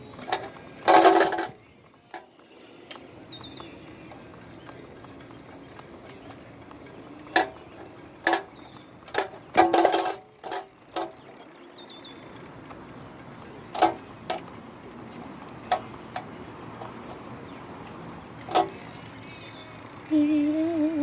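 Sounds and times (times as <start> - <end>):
bike riding road noise: 0.0 - 21.0.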